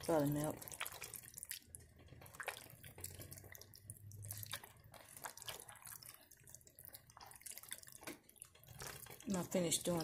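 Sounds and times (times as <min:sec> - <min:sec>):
wet squelches of chicken in marinade: 0:00.0 - 0:10.0.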